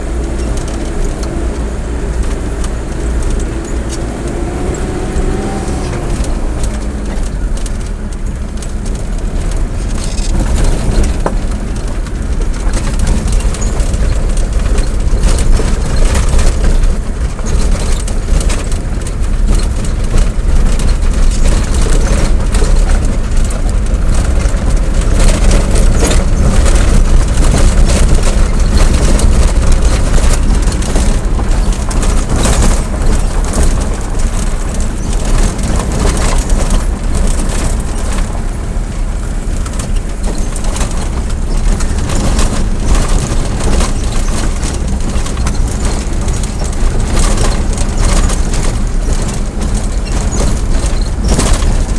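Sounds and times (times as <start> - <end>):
vehicle rumble and road noise: 0.0 - 51.9.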